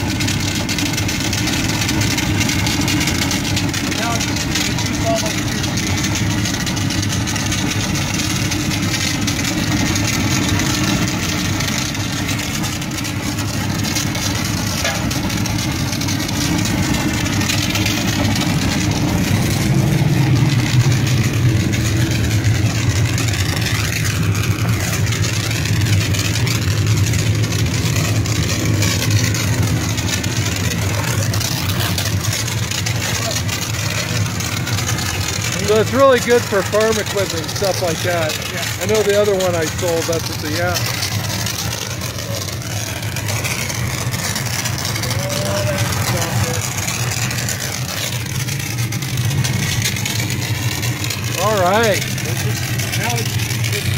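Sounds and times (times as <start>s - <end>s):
pressure washer pump humming: 0.0s - 53.9s.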